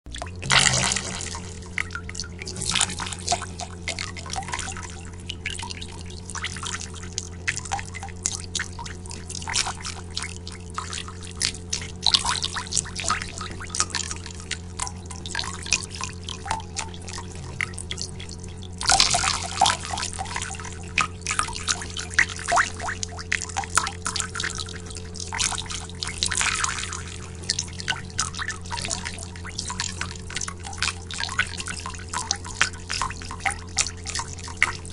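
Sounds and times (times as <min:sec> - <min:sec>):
steady low hum: 0:00.1 - 0:34.9
water drops plinking with echo: 0:00.1 - 0:34.9.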